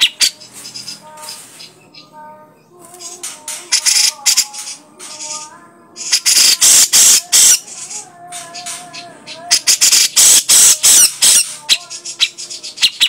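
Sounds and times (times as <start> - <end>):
bird harsh rasping calls: 0.0 - 2.2, 2.8 - 13.0.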